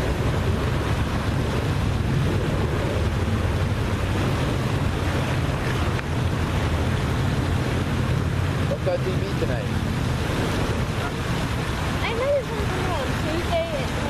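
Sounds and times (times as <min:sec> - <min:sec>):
water noise: 0:00.0 - 0:14.0
wind over microphone: 0:00.0 - 0:14.0.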